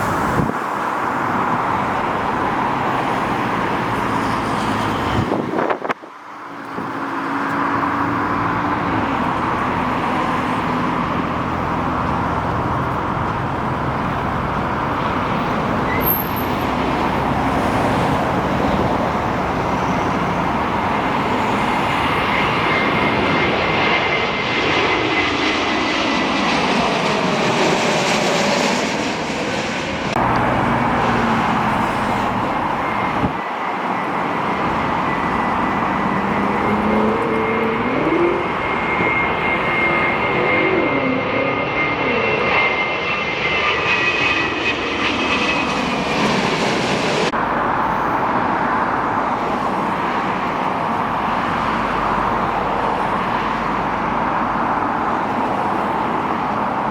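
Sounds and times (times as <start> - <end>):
jet engines rushing: 0.0 - 56.9.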